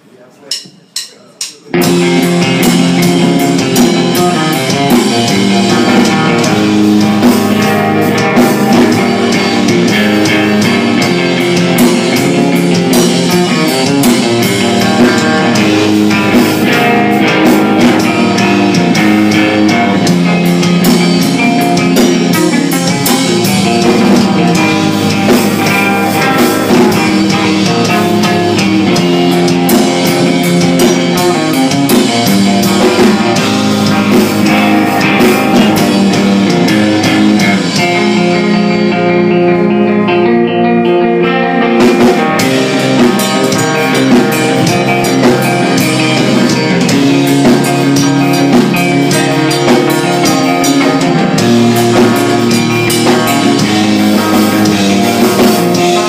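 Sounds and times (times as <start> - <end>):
drum kit: 0.0 - 56.0
electric guitar: 1.7 - 56.0.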